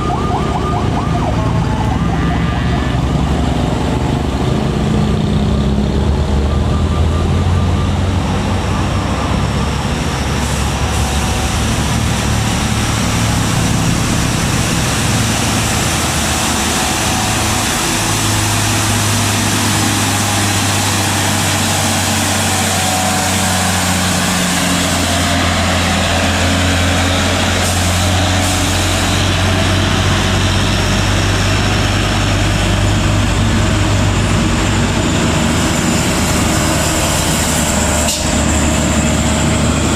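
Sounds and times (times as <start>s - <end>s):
diesel truck engine labouring: 0.0s - 39.9s
road and mechanical noise: 0.0s - 39.9s.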